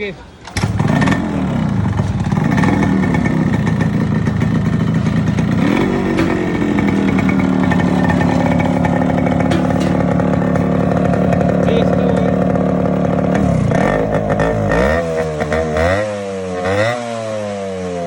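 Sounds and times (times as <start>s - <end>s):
two-stroke motorcycle engine revving: 0.4s - 18.0s.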